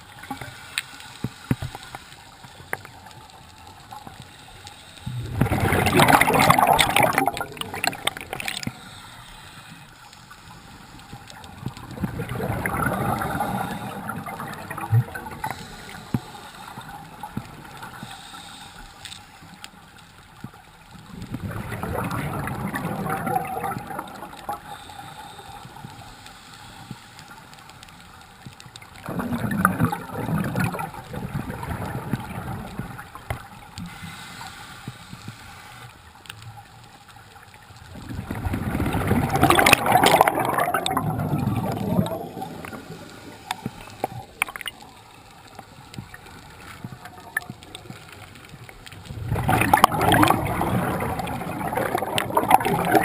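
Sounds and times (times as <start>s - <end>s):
underwater bubbles gurgling: 0.0s - 53.0s.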